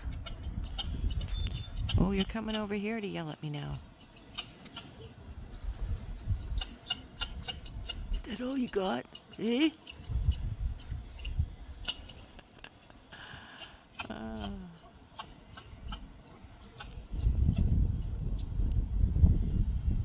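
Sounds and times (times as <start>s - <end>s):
squirrel chucking: 0.0s - 18.2s.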